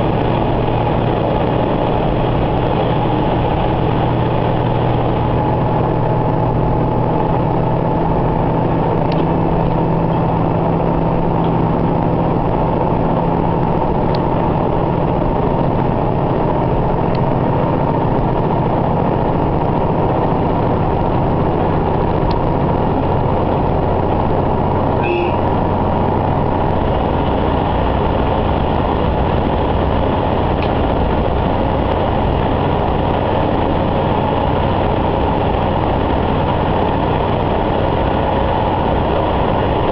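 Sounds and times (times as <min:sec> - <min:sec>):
railcar engine drone: 0:00.0 - 0:39.9.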